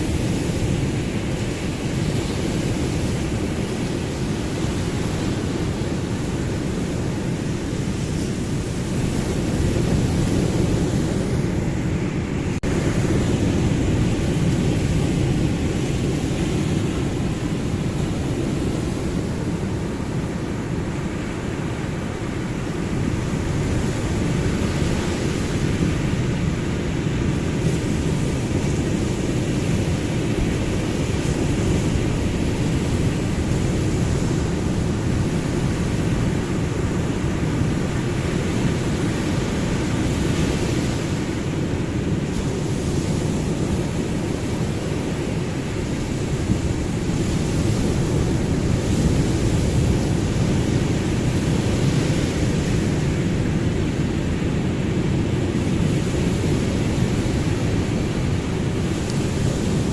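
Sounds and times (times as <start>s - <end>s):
hiss of waves washing in: 0.0s - 59.9s
waves breaking: 0.0s - 59.9s.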